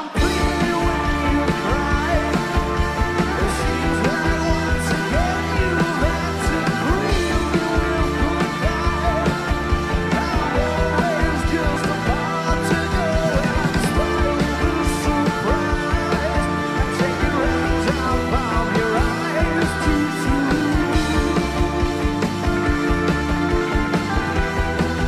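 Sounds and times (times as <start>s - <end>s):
person singing: 0.0s - 24.4s
live rock band playing: 0.0s - 25.0s.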